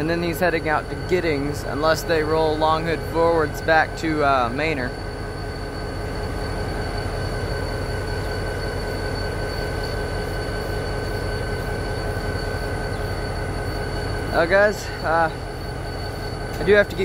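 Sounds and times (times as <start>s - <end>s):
diesel locomotive rumbling: 0.0s - 17.0s
high whine: 0.0s - 17.0s.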